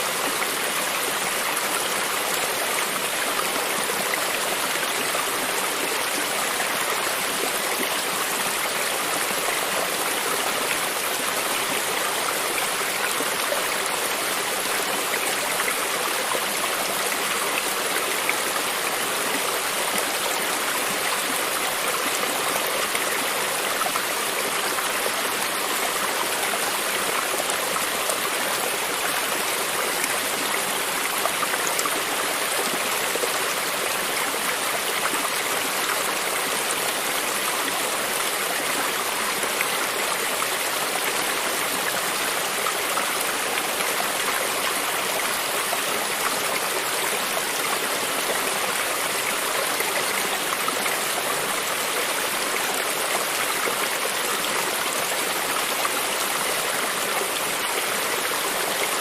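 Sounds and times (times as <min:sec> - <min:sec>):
creek water running over rocks: 0:00.0 - 0:59.0.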